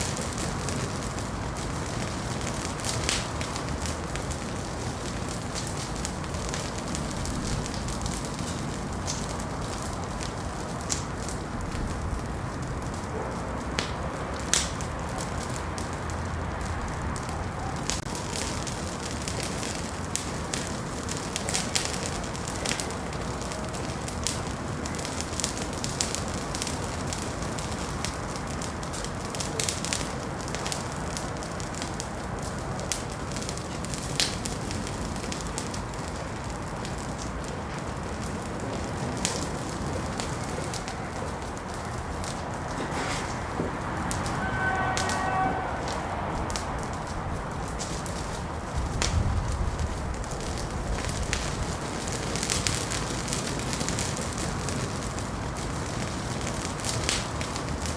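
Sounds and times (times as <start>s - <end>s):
low rush of flames: 0.0s - 57.9s
sharp pops of fire: 0.0s - 57.9s
wood fire crackling: 0.0s - 57.9s.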